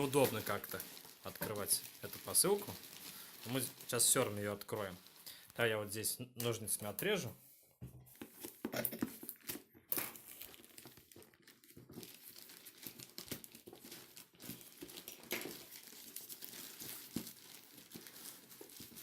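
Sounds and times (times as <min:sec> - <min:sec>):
packaging crinkling and tearing: 0:00.0 - 0:05.7, 0:08.3 - 0:19.0.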